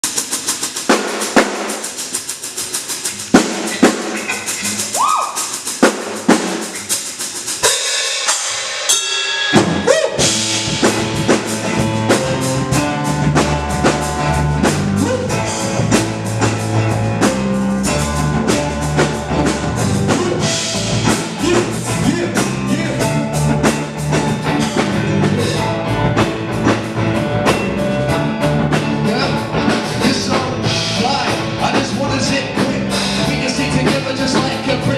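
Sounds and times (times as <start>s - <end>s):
drum kit beat: 0.0s - 34.9s
bass guitar: 1.9s - 7.8s, 9.6s - 34.9s.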